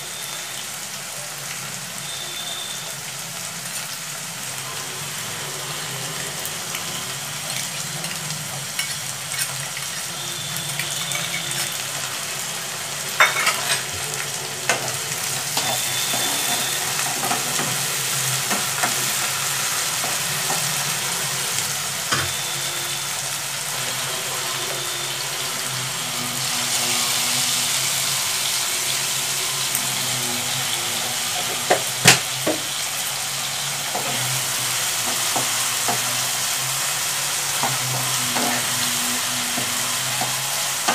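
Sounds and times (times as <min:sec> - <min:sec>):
vegetables sizzling in oil: 0:00.0 - 0:40.9.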